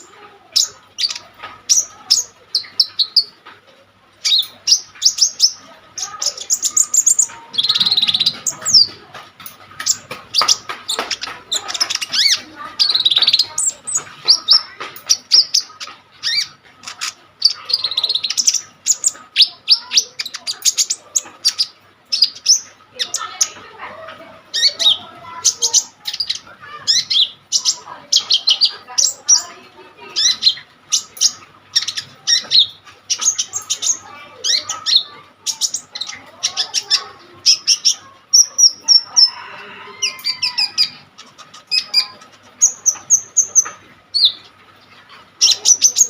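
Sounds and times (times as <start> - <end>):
songbird singing: 0.0 - 46.0.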